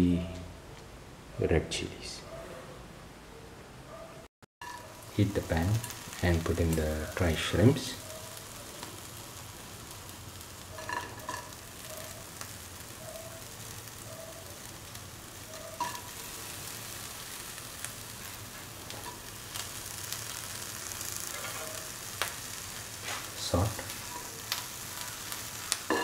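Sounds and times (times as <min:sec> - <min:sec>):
shrimp sizzling in a pan: 0:04.6 - 0:26.0.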